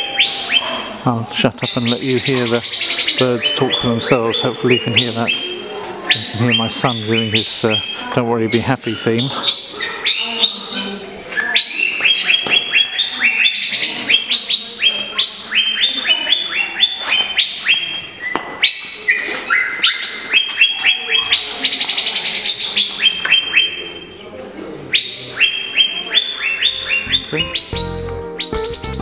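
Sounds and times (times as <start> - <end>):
small birds chirping and twittering: 0.0 - 28.9.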